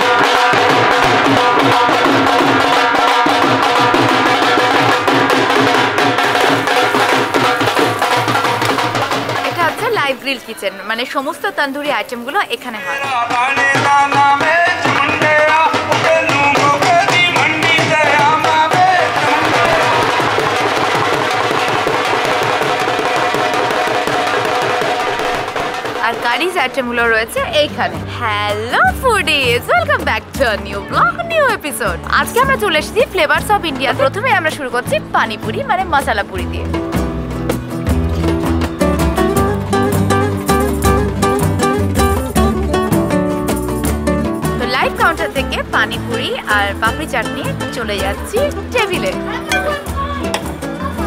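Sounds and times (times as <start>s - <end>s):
fast drumming: 0.0s - 11.2s, 11.9s - 51.0s.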